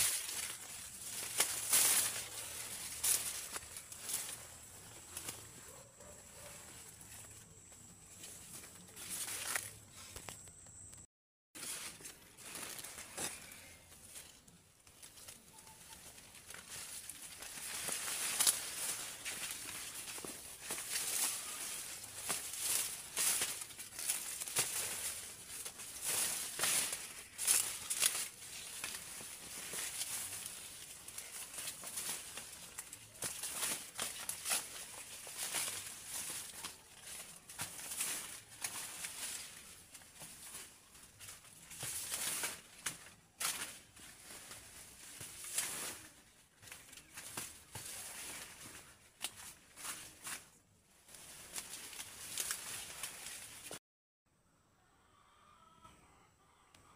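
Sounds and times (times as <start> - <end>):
dry leaves rustling and crinkling: 0.0 - 10.3, 11.6 - 53.8.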